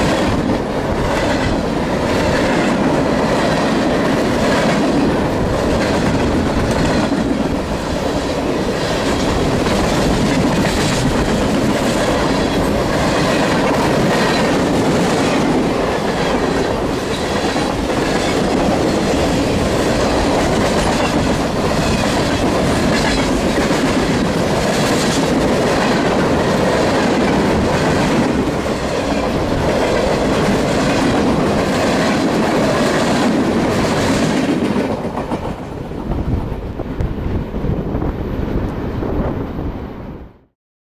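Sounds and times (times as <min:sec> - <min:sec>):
steel wheels rumbling on rail: 0:00.0 - 0:40.3.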